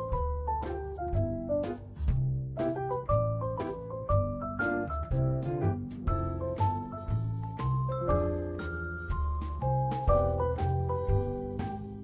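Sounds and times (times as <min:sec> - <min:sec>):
keyboard melody with bass and beat: 0:00.0 - 0:12.0.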